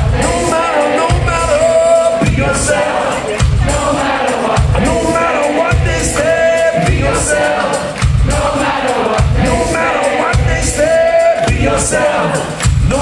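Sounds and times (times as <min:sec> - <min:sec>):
group of people singing: 0:00.0 - 0:13.0
live band music: 0:00.0 - 0:13.0.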